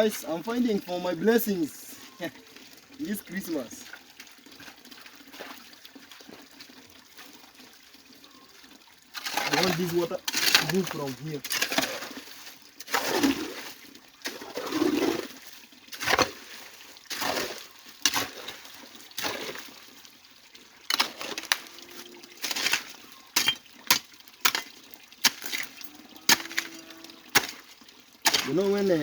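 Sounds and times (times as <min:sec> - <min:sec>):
splashing and knocking in stream: 0:02.7 - 0:07.7, 0:09.1 - 0:20.1, 0:20.7 - 0:29.0.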